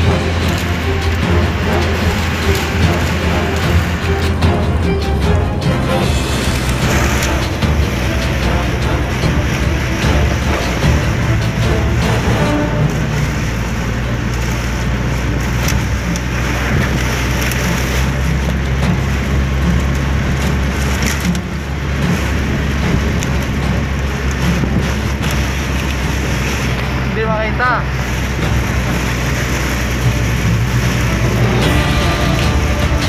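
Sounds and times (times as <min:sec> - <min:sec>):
moving vehicle: 0:00.0 - 0:33.0
wind rumble and hiss: 0:00.0 - 0:33.0.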